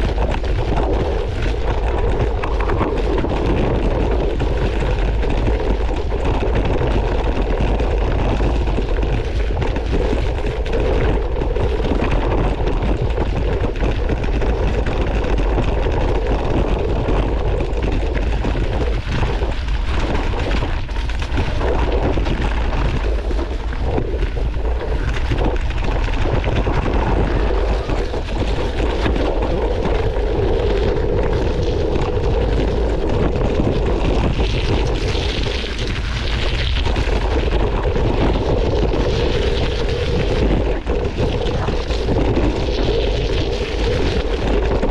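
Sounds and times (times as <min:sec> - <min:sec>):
bike rattling and knocking: 0:00.0 - 0:44.9
tyres rumbling over stones: 0:00.0 - 0:44.9
wind buffeting microphone: 0:00.0 - 0:44.9.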